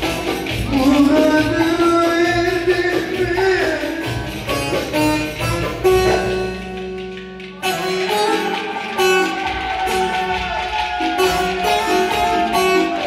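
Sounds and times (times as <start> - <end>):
drum beat: 0.0 - 13.0
plucked string folk dance music: 0.0 - 13.0.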